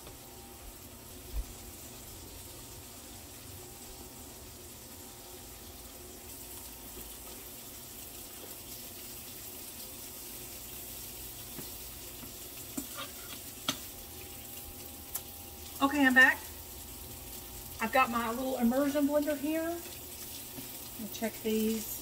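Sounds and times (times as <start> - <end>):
sausage sizzling in a skillet: 0.0 - 22.0.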